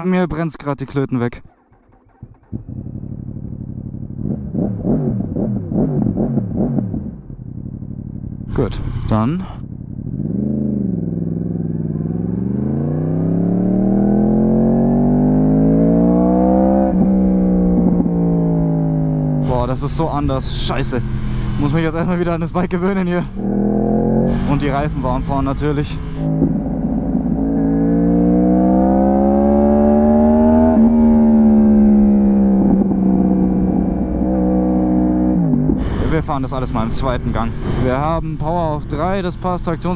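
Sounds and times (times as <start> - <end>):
motorcycle engine accelerating: 1.3 - 39.9.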